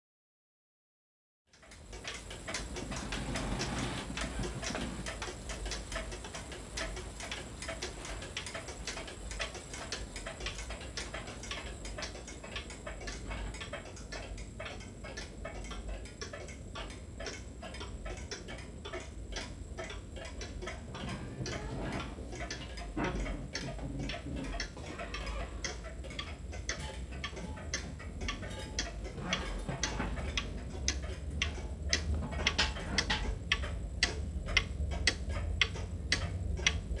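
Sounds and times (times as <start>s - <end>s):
low steady hum: 1.5s - 37.0s
pendulum clock ticking: 1.5s - 37.0s.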